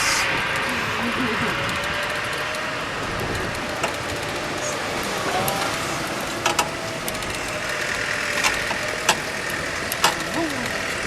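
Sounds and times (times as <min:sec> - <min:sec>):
golf cart humming: 0:00.0 - 0:11.0
sharp clicks: 0:01.5 - 0:11.0.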